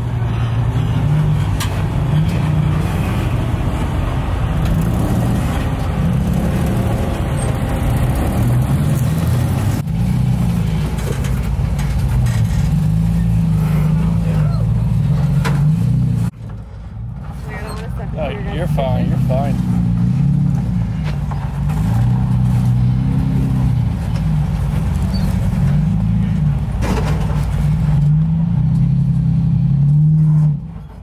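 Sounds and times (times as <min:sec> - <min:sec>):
truck engine at low revs: 0:00.0 - 0:31.0.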